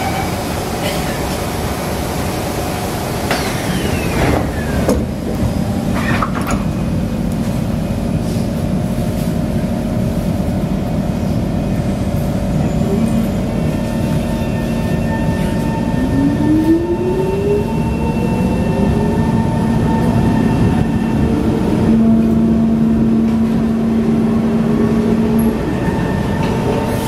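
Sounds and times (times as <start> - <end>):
train doors closing: 0.0 - 9.6, 12.0 - 27.0.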